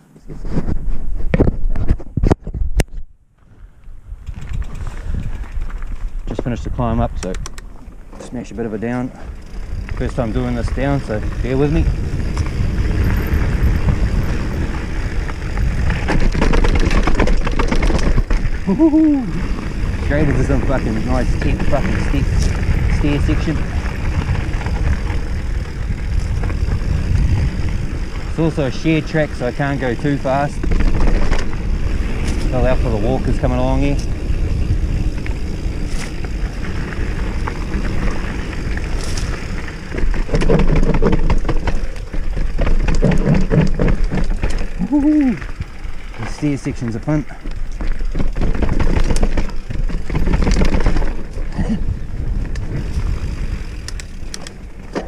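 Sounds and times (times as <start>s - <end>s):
bike rattling over rough ground: 0.0s - 55.0s
rumble of wind and tyres: 0.0s - 55.0s.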